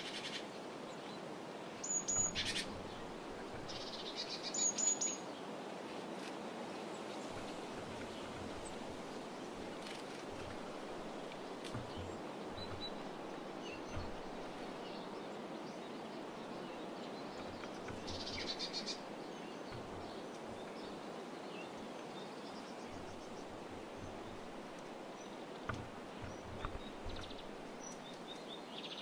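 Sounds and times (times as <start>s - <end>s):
small songbirds chirping: 0.0s - 29.0s
steady background hiss: 0.0s - 29.0s
faint low bumps: 2.1s - 28.4s.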